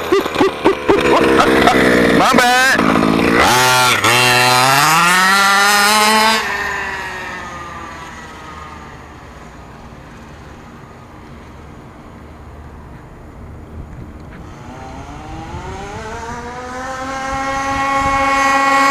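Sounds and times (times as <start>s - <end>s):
small two-stroke engine revving: 0.0s - 12.9s, 14.3s - 18.9s.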